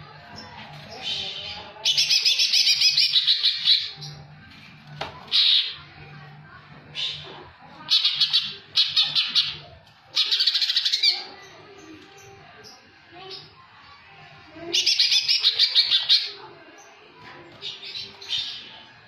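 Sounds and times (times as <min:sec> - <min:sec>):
bird singing rattling phrases: 0:00.0 - 0:04.5, 0:05.3 - 0:14.0, 0:14.6 - 0:19.0.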